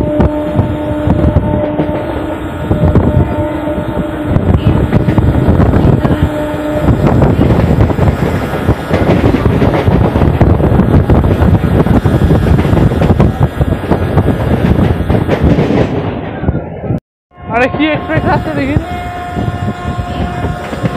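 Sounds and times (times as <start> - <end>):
train wheels rattling on track: 0.0 - 17.0, 17.6 - 20.9
wind buffeting microphone: 0.0 - 20.9.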